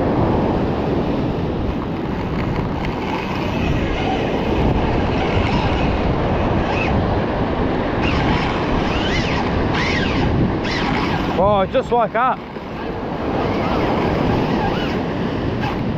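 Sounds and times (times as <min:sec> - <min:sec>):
ocean surf on rocky shore: 0:00.0 - 0:15.9
wind buffeting microphone: 0:00.0 - 0:15.9.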